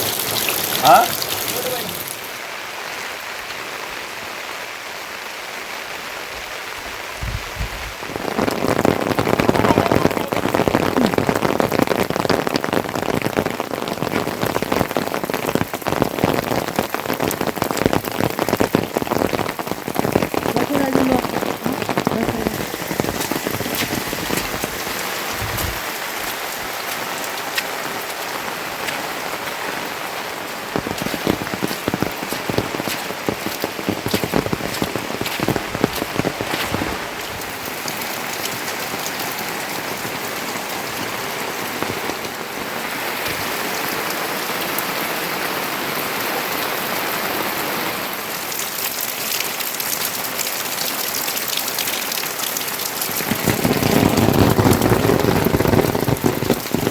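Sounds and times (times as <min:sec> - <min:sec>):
raindrops striking close by: 0:00.0 - 0:56.9
steady rain falling: 0:00.0 - 0:56.9.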